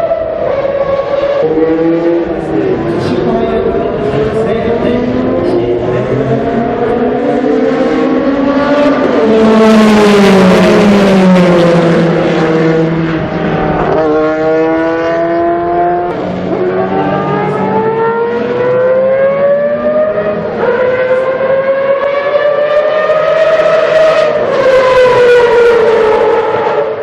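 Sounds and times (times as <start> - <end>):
race car engine at high revs: 0.0 - 27.0.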